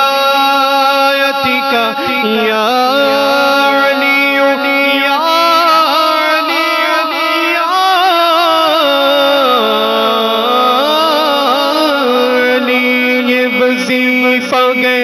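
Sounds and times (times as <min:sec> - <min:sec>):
man singing melismatic line: 0:00.0 - 0:15.0
low drone: 0:01.5 - 0:14.3.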